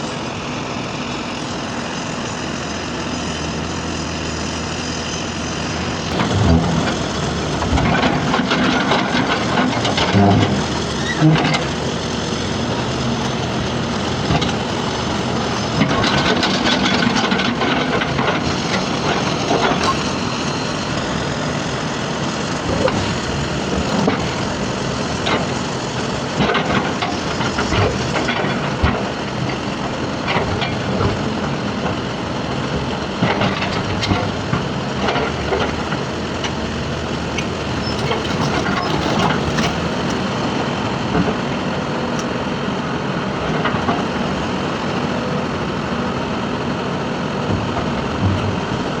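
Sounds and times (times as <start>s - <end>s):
diesel engines running: 0.0s - 49.0s.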